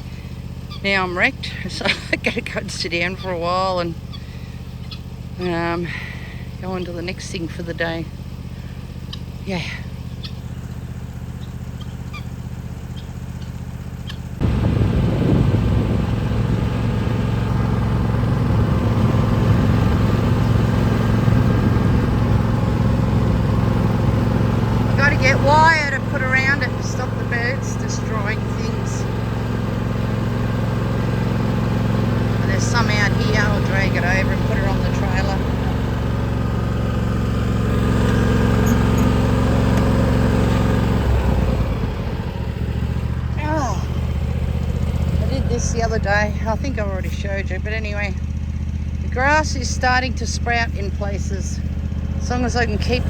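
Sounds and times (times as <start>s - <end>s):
small engine running steadily: 0.0s - 53.0s.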